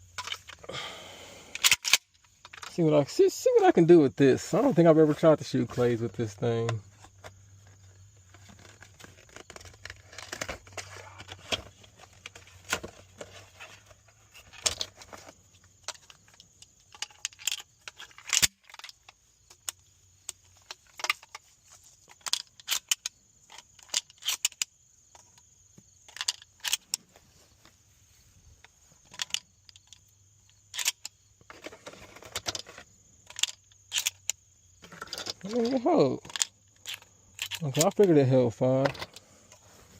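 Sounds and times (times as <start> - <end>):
objects clicking and crinkling: 0.0 - 0.8, 1.5 - 2.8, 5.7 - 27.7, 28.6 - 39.6.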